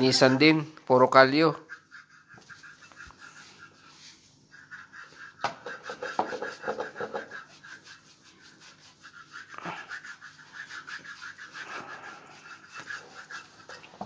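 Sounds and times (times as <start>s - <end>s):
scrubbing brush rasping on feet: 1.6s - 14.0s.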